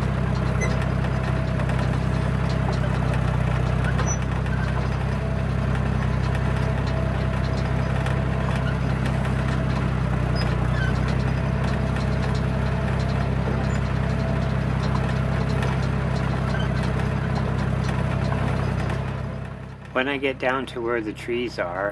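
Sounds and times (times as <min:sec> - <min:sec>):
bulldozer diesel engine running: 0:00.0 - 0:21.9.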